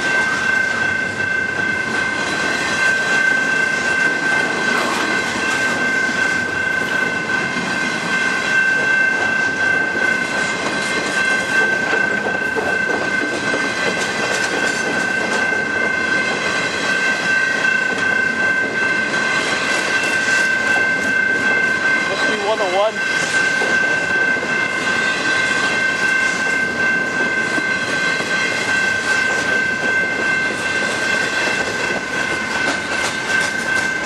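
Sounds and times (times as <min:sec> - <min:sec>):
freight train rolling past: 0:00.0 - 0:34.0
high ringing tone: 0:00.0 - 0:34.0.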